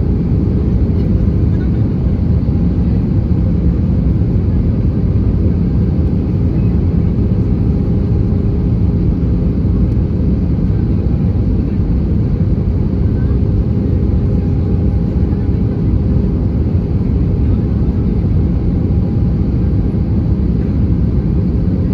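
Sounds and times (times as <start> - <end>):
jet engine cabin rumble: 0.0 - 21.9.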